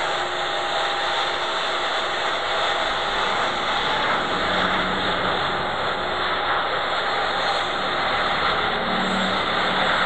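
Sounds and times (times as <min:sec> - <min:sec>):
jet engines at takeoff thrust: 0:00.0 - 0:10.0.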